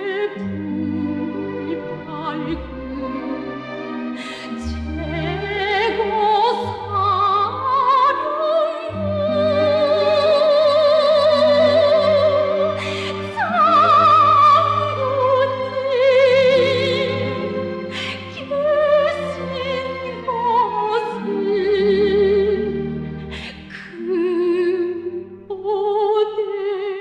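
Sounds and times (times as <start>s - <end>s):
low instrumental accompaniment: 0.0s - 8.2s, 8.9s - 25.5s
operatic singing: 0.0s - 27.0s.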